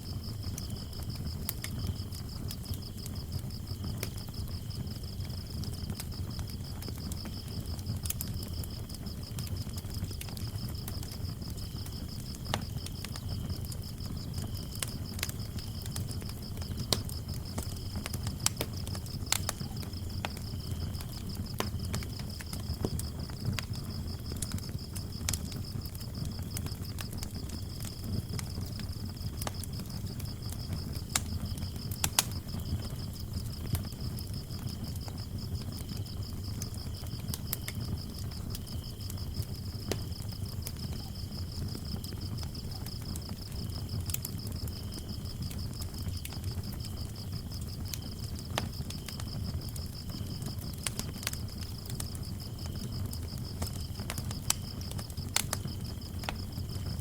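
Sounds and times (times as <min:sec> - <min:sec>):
high pulsing cricket chirp: 0:00.0 - 0:57.0
low rumble of flames: 0:00.0 - 0:57.0
lower cricket chirp: 0:00.0 - 0:57.0
wood fire crackling: 0:00.0 - 0:57.0
sharp pops of fire: 0:00.2 - 0:57.0.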